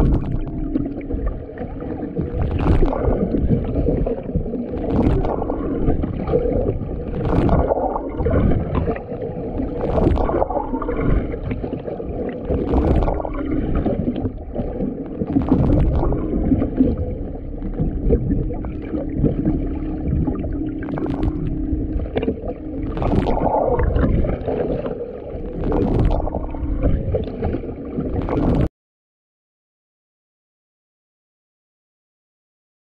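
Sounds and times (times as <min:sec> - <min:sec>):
boat hum underwater: 0:00.0 - 0:28.7
short splashy bursts: 0:00.0 - 0:28.7
water sloshing and gurgling: 0:00.0 - 0:28.7.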